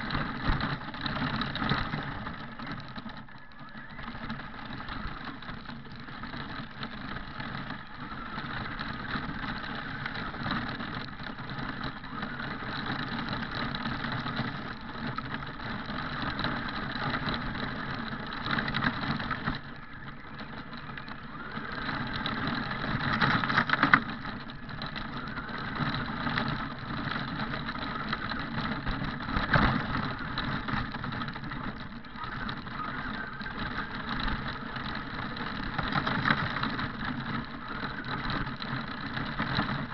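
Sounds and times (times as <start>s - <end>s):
toy truck motor: 0.0s - 39.9s.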